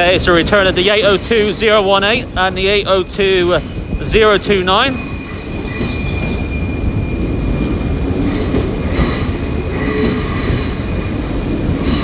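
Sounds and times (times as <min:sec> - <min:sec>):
train hissing: 0:00.0 - 0:12.0
train wheels rumbling: 0:00.0 - 0:12.0
high wheel squeal: 0:00.6 - 0:12.0.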